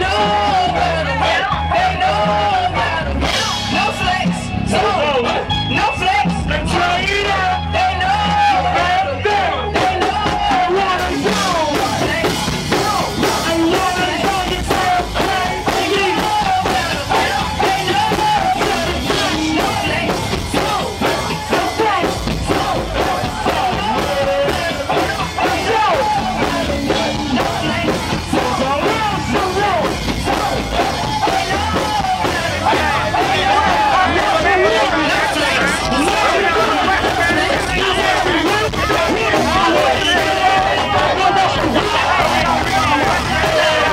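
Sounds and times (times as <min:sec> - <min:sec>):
live band drums and percussion: 0:00.0 - 0:43.9
people yelling: 0:00.0 - 0:43.9
person singing into microphone: 0:00.0 - 0:43.9.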